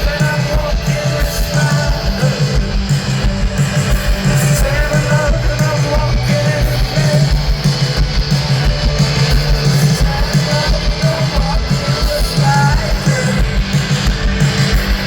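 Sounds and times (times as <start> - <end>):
driving drum beat: 0.0 - 15.0
electric guitars: 0.0 - 15.0.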